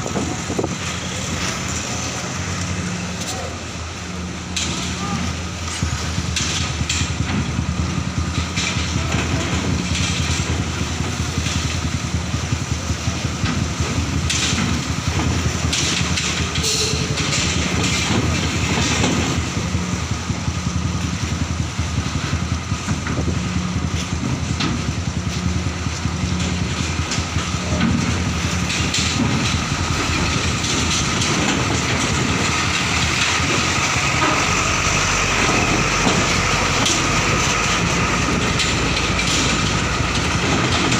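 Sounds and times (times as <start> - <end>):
truck diesel engines running: 0.0 - 40.9
rattles and knocks: 4.5 - 40.9.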